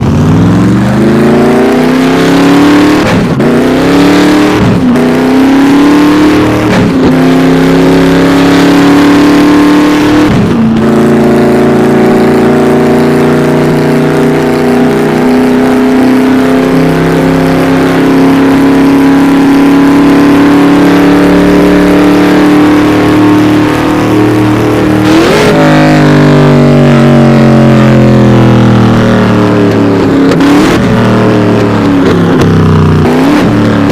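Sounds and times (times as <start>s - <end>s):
car engine running hard: 0.0s - 33.9s.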